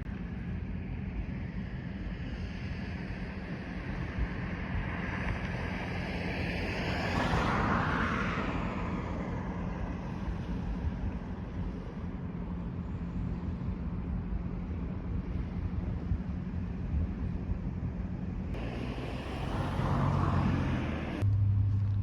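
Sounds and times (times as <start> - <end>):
steady low hum: 0.0 - 22.0
wind rumble on microphone: 0.0 - 22.0.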